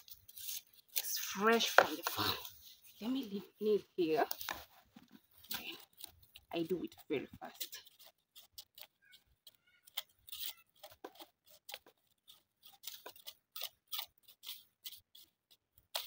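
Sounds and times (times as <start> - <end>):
knife scraping off skin: 0.0 - 3.2, 4.3 - 16.0.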